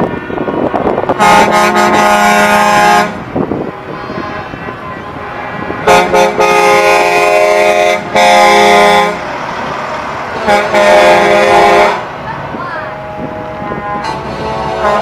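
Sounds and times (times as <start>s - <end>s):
truck air horn blasts: 0.0s - 9.3s, 10.3s - 12.2s, 12.8s - 15.0s
truck engine: 0.0s - 15.0s.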